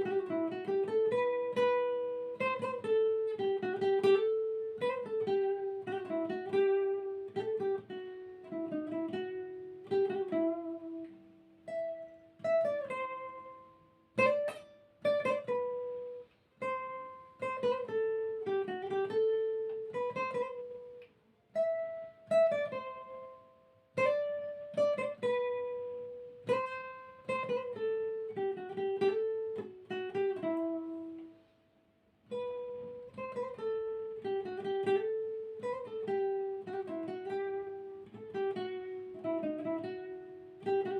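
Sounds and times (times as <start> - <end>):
plucked string melody: 0.0 - 31.5, 32.2 - 40.9.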